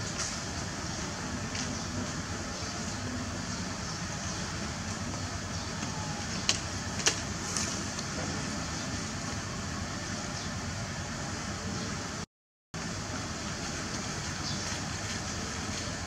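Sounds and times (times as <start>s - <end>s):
outdoor background rush: 0.0s - 16.0s.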